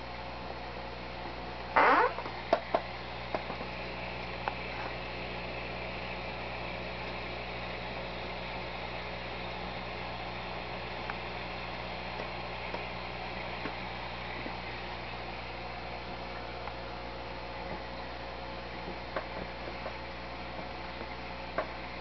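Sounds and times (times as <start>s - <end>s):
fish tank equipment humming: 0.0s - 22.0s.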